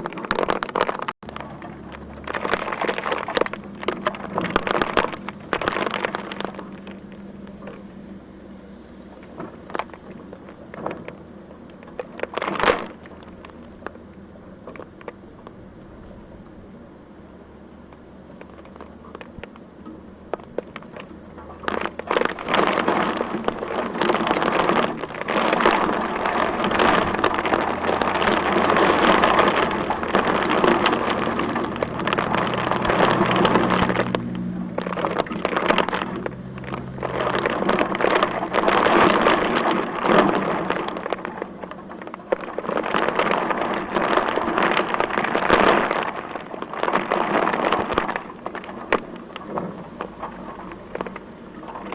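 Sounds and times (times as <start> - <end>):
heavy rain on hard surfaces: 0.0 - 51.9
low steady hum: 0.0 - 51.9.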